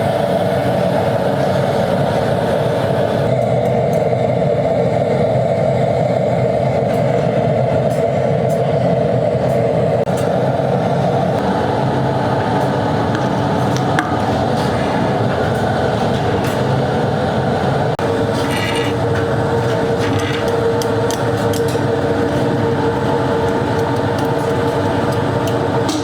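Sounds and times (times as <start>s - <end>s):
low hum: 0.0s - 26.0s
machinery drone: 0.0s - 26.0s.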